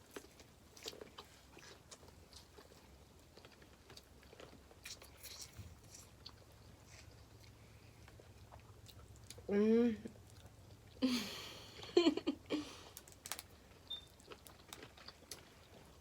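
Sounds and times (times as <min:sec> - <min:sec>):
chewing and mouth smacks: 0:00.0 - 0:09.5, 0:10.1 - 0:11.0, 0:12.9 - 0:16.0.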